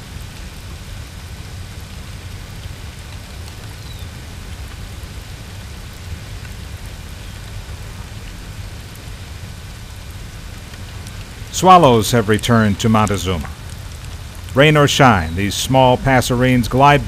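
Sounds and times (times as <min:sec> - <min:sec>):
continuous low rumble: 0:00.0 - 0:17.0
rain falling on water: 0:00.0 - 0:17.0.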